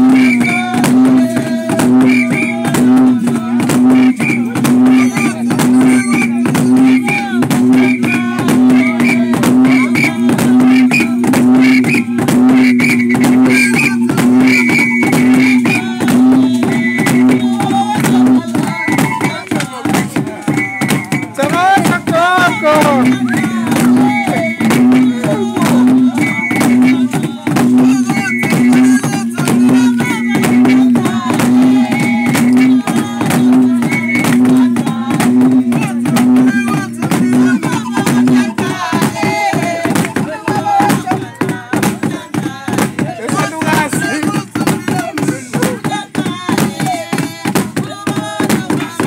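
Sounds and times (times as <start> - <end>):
fast drumbeat: 0.0 - 49.0
voices singing: 0.0 - 49.0.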